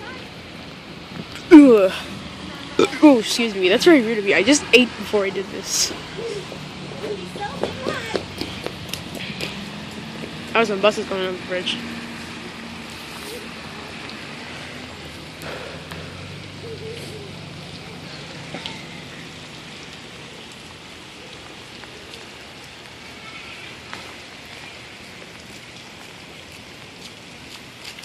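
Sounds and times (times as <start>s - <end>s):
buses crossing a bridge: 0.0s - 27.9s
steady rain falling: 0.0s - 28.0s
water drips ticking: 0.7s - 28.0s.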